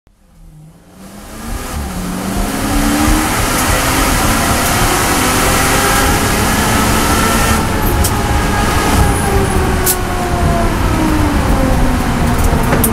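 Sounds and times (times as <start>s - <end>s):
race car engine at full throttle: 0.1s - 12.9s.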